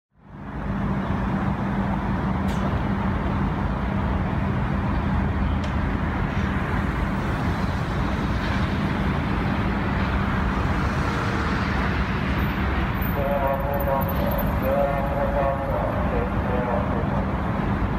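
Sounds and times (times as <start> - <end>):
road traffic with engine hum: 0.1 - 17.9.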